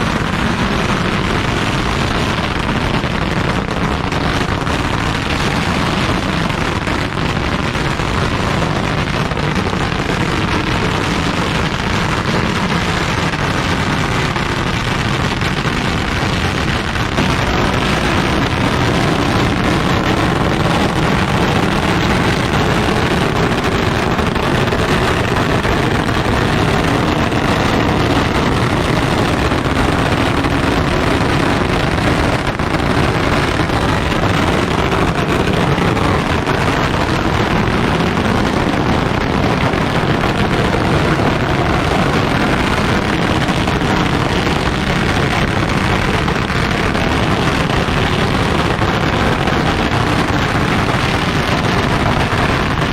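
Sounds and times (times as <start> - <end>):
firecrackers going off: 0.0 - 52.9.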